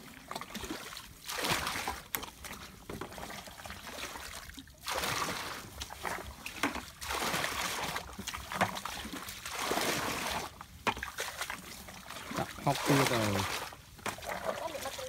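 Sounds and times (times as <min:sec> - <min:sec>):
muddy water pouring from bucket: 0:00.0 - 0:15.0.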